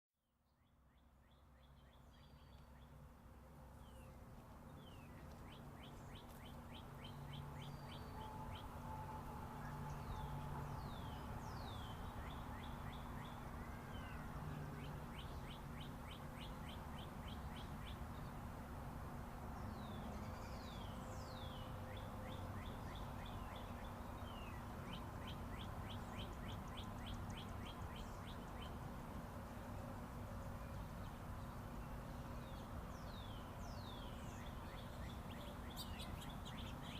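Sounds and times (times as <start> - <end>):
songbirds chirping and trilling: 0.6 - 36.9
distant highway traffic hum: 0.7 - 36.9.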